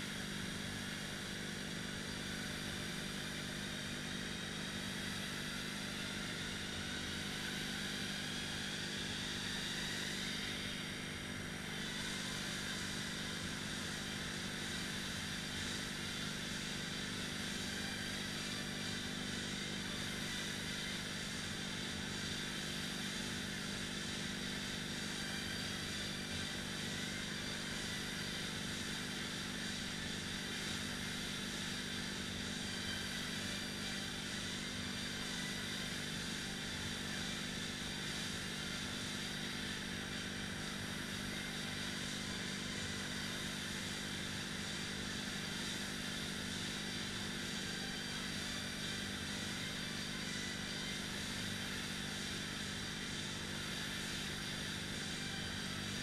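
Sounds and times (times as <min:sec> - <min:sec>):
rowing machine flywheels whirring: 0:00.0 - 0:56.0.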